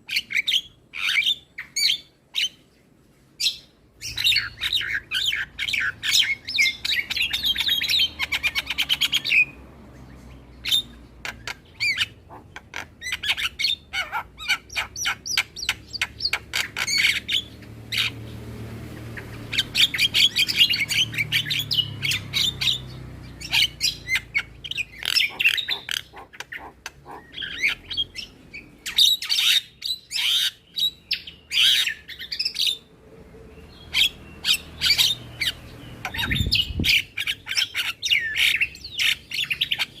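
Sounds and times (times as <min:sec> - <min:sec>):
myna bird song: 0:00.0 - 0:40.0.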